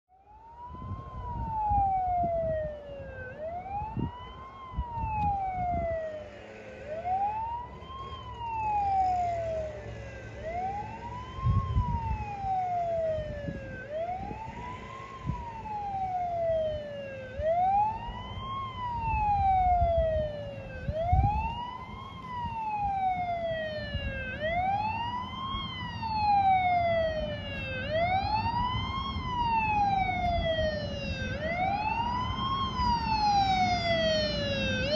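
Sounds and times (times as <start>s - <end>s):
emergency siren wailing: 0.1s - 34.9s
second siren cycling: 0.1s - 34.9s.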